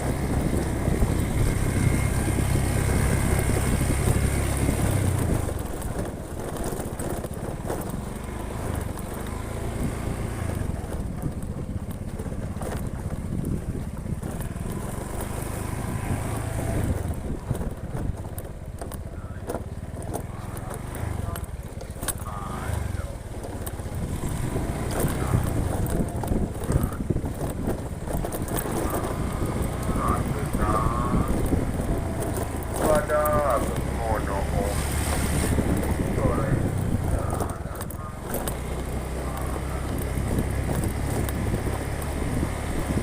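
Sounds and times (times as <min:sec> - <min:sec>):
road noise: 0:00.0 - 0:43.0
vehicle engine while driving: 0:00.0 - 0:43.0.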